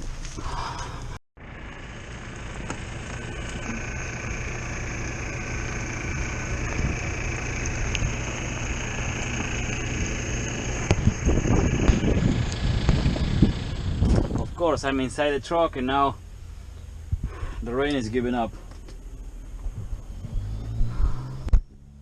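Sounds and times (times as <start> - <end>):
truck engine idling: 0.4 - 21.4.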